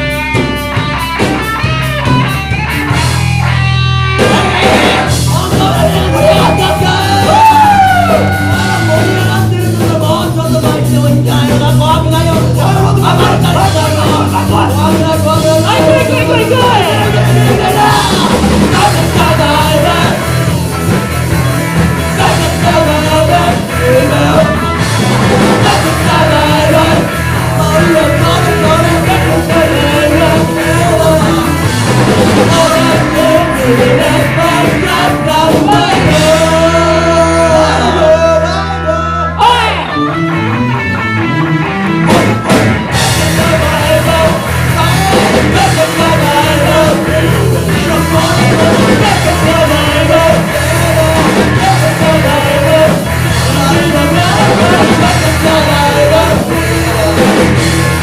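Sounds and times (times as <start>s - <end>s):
live rock band playing: 0.0s - 58.0s
lead singer singing: 4.2s - 40.0s, 42.4s - 58.0s.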